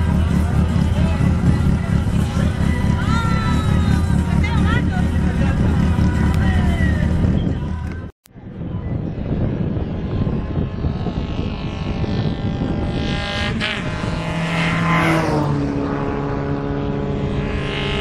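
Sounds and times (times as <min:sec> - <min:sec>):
car engine revving: 0:00.0 - 0:07.9, 0:10.3 - 0:18.0.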